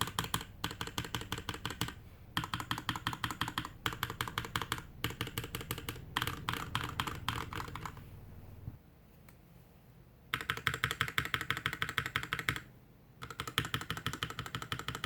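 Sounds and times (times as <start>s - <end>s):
mechanical keyboard typing: 0.0s - 8.1s, 10.3s - 15.0s.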